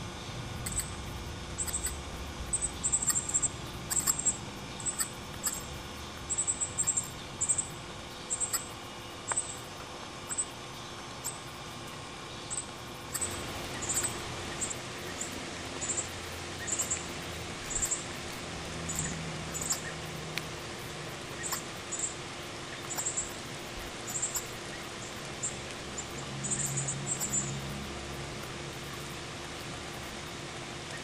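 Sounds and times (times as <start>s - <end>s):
steady background hiss: 0.0s - 31.0s
bird chip calls: 0.6s - 11.6s, 12.3s - 18.2s, 18.8s - 27.8s.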